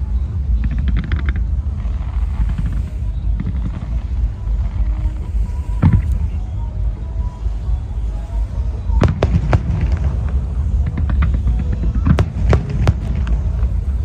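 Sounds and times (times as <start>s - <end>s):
faint crowd voices: 0.0s - 14.0s
firework bang: 0.0s - 14.0s
fireworks rumble: 0.0s - 14.0s.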